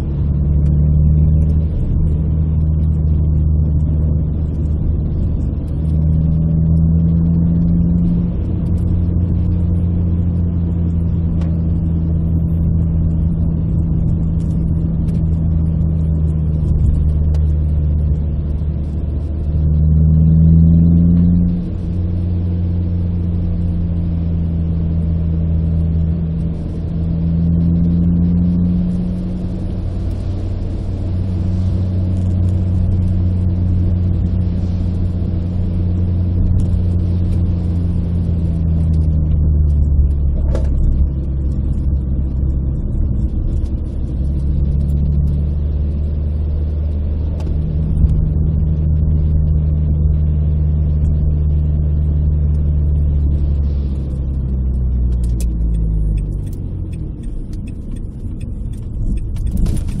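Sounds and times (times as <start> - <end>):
car engine cruising from cabin: 0.0 - 60.0.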